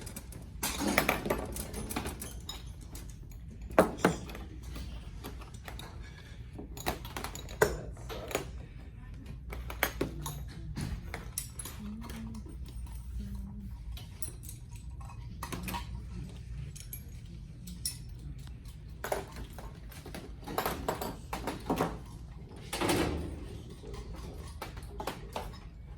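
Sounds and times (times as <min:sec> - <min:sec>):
light metallic clinks and rattles: 0:00.0 - 0:08.6, 0:09.5 - 0:25.9
low steady hum: 0:00.0 - 0:25.9.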